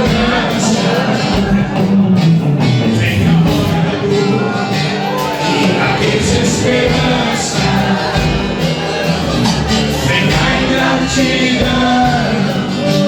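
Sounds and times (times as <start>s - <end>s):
bass: 0.0s - 13.0s
gospel band music: 0.0s - 13.0s
steady drum beat: 0.0s - 13.0s.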